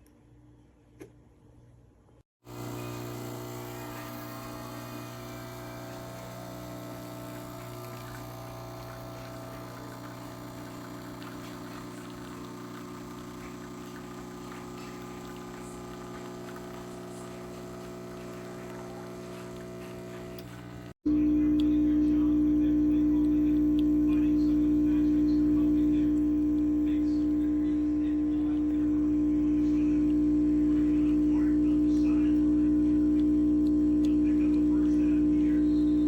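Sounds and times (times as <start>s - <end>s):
espresso machine pump humming: 2.4s - 36.0s.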